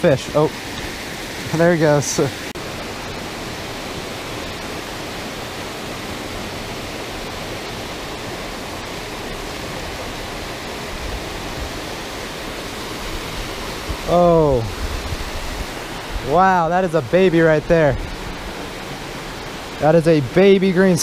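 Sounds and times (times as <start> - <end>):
water rushing over a weir: 0.0 - 21.0.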